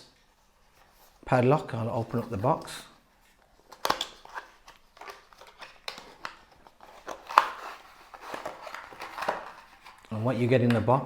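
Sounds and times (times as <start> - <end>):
cardboard packaging rustling: 0.3 - 10.6.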